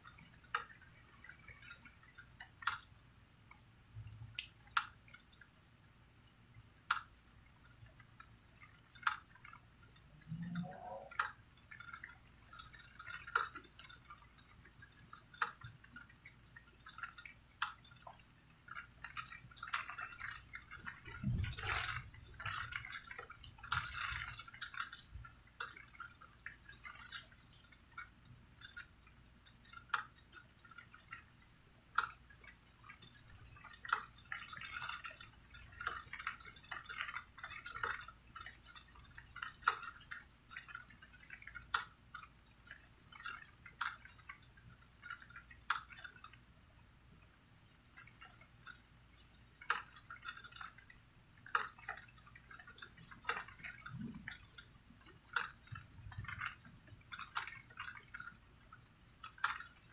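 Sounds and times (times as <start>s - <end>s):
rain dripping and pattering: 0.0s - 59.9s.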